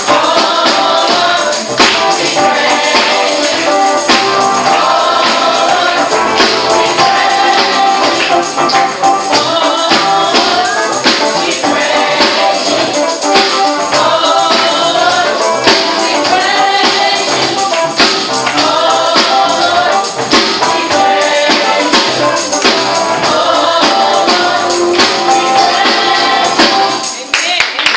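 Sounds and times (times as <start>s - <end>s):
choir singing gospel song: 0.0s - 27.2s
tambourine shaken and struck: 0.0s - 27.3s.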